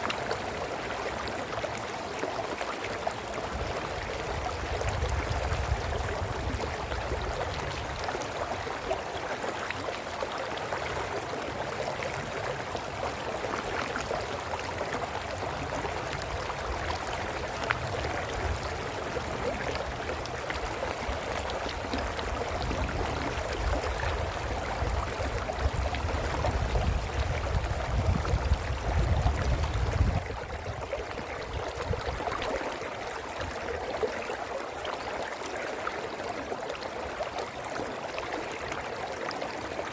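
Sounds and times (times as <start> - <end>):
brook water babbling: 0.0 - 39.9.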